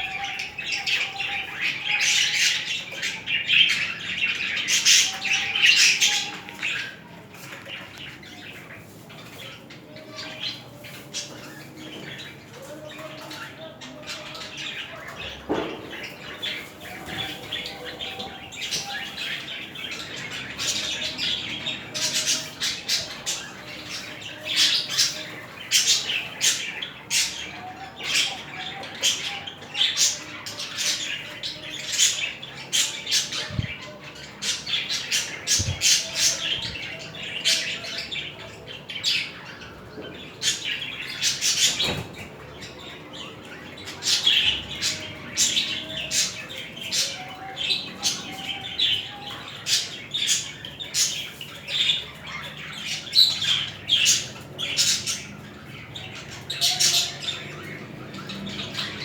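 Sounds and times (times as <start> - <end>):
budgies chattering and squawking: 0.0 - 59.0.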